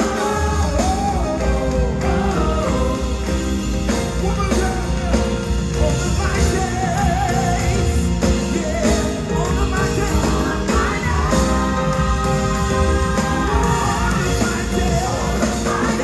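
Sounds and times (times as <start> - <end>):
gospel band playing: 0.0 - 16.0
person singing: 0.0 - 16.0.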